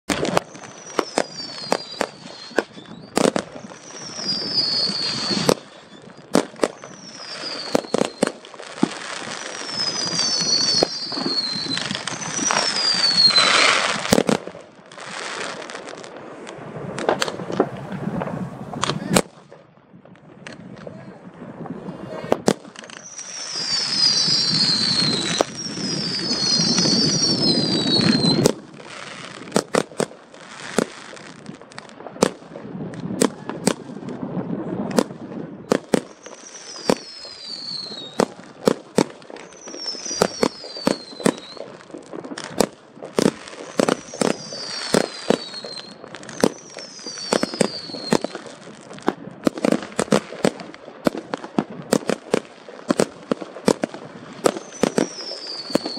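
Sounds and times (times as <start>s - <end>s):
falling firework whistles: 0.1s - 17.6s, 22.2s - 32.4s, 34.9s - 51.2s, 51.9s - 55.9s
fireworks crackling: 0.1s - 55.9s
fireworks sharp bangs: 0.1s - 55.9s.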